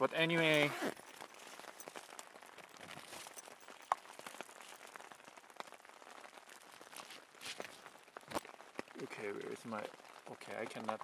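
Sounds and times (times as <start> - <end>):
rain falling on a tent: 0.0 - 11.0.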